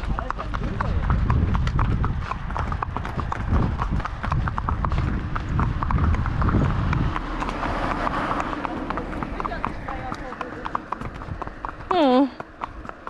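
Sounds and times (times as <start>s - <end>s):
low rumble: 0.0s - 11.7s
horse hooves clip-clopping: 0.0s - 13.0s.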